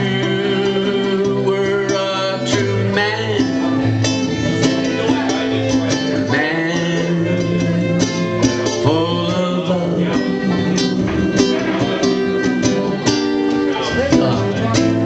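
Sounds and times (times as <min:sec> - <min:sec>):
acoustic guitar strummed: 0:00.0 - 0:15.0
banjo picked: 0:00.0 - 0:15.0.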